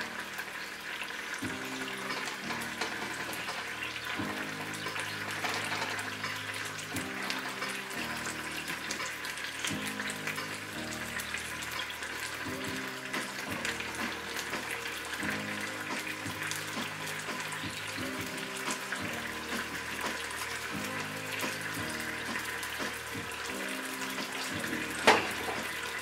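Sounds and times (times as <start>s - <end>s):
background music: 0.0s - 26.0s
vegetables sizzling in a frying pan: 0.0s - 26.0s.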